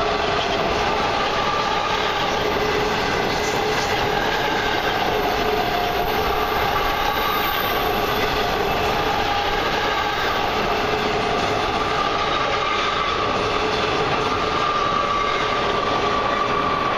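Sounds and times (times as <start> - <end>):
freight train wheels rumbling: 0.0 - 16.9.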